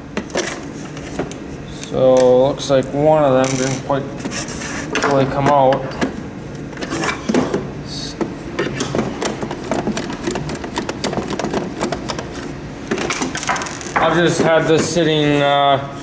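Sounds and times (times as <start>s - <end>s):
humidifier parts clicking and knocking: 0.0s - 15.8s.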